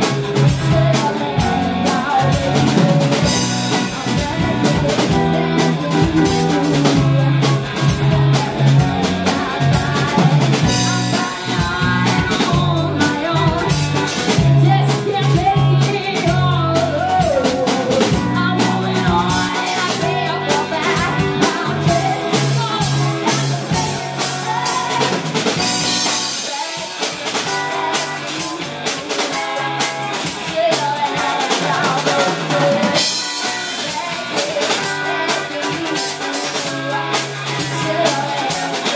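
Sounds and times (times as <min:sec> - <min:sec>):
live rock band playing: 0:00.0 - 0:38.9
woman singing lead: 0:00.0 - 0:38.9.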